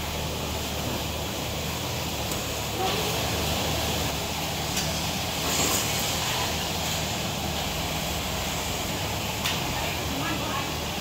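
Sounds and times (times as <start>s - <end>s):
road traffic rumble and hiss: 0.0s - 11.0s.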